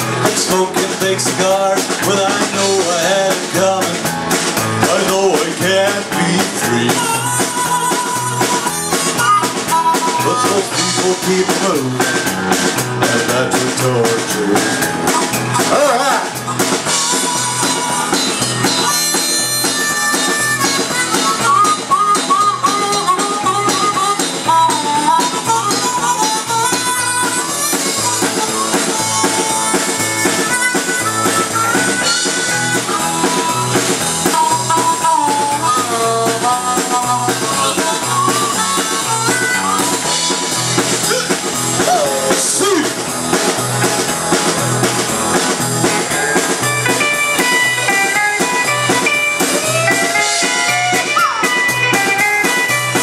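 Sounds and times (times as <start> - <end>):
bass: 0.0 - 53.0
drum kit shuffle beat: 0.0 - 53.0
guitars: 0.0 - 53.0
harmonica solo: 5.7 - 53.0.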